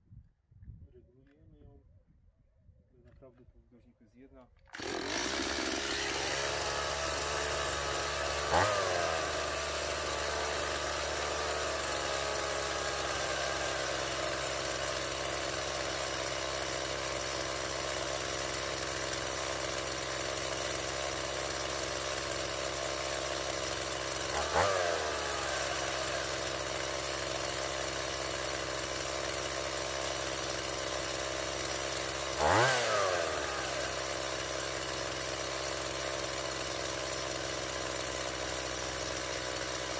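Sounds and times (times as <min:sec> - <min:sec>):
chainsaw engine idling and revving: 0:04.7 - 0:39.9.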